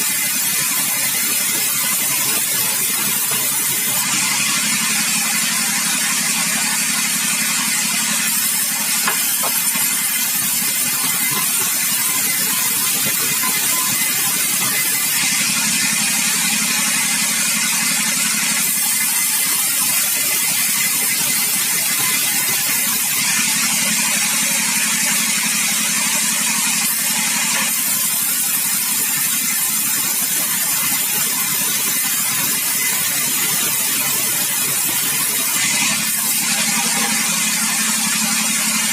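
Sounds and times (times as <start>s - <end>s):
engine drone: 0.0s - 38.9s.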